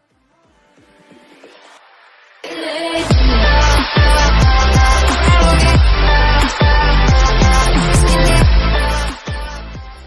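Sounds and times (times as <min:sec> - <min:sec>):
electronic dance music: 0:00.5 - 0:10.0.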